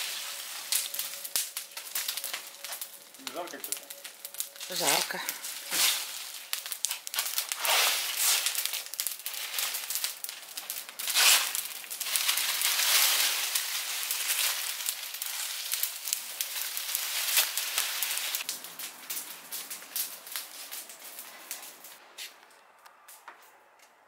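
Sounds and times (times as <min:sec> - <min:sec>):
fire hiss: 0:00.0 - 0:22.0
bonfire crackling and popping: 0:00.0 - 0:23.9.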